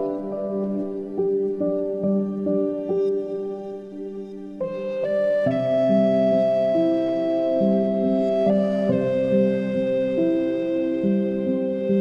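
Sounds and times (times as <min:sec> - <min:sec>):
calm new-age instrumental music: 0:00.0 - 0:12.0.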